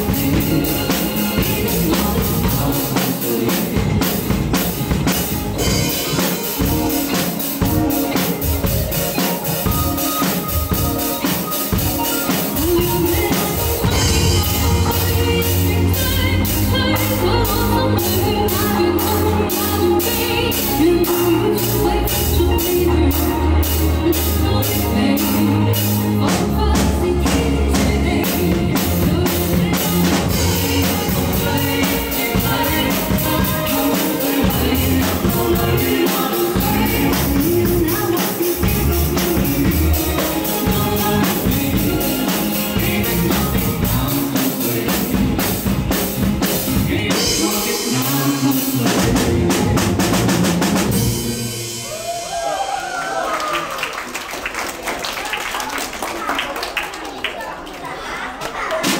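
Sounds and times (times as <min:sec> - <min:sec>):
drum kit played with sticks: 0:00.0 - 0:53.6, 0:58.5 - 0:58.9
backing track with singing: 0:00.0 - 0:56.2.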